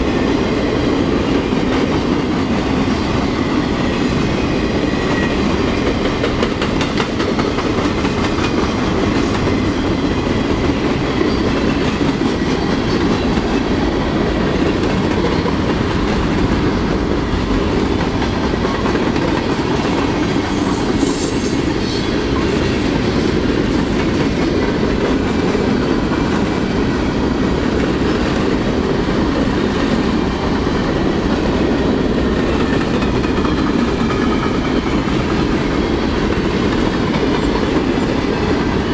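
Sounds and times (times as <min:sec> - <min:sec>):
clickety-clack over rail joints: 0:00.0 - 0:38.9
freight train wheels rumbling: 0:00.0 - 0:38.9.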